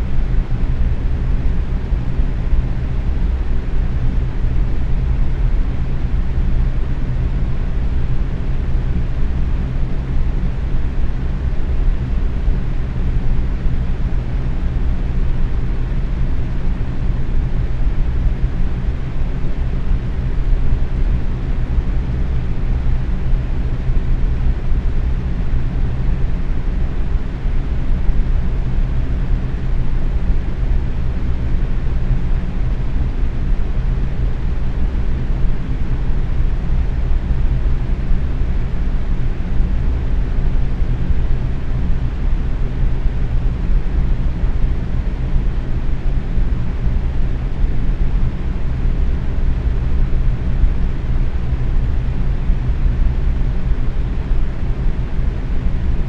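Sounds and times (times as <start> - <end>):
box fan running: 0.0 - 56.0.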